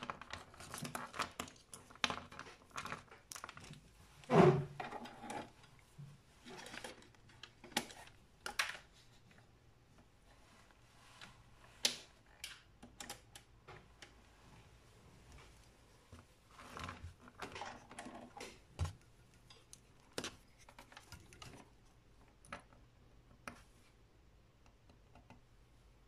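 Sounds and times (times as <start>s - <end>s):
cord rustling: 0.0s - 24.0s.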